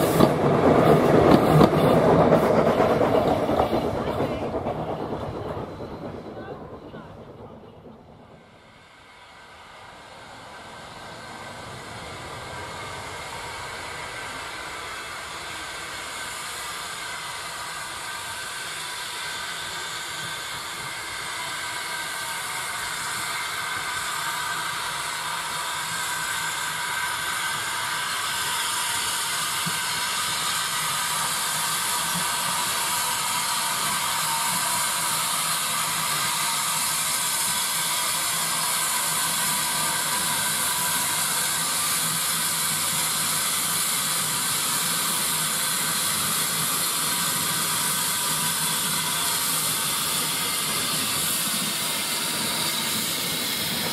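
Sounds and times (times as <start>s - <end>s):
steam locomotive hissing: 0.0s - 53.9s.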